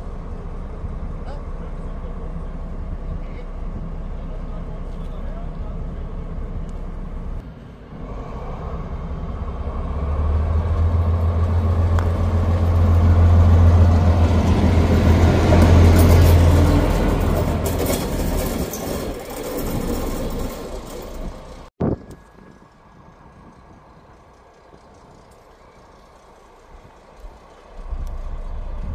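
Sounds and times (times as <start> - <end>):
diesel locomotive engine drone: 0.0 - 28.9.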